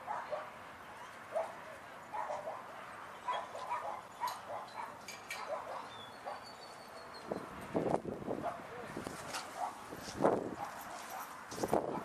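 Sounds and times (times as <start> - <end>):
dogs barking and yipping: 0.0 - 7.5, 8.4 - 12.0.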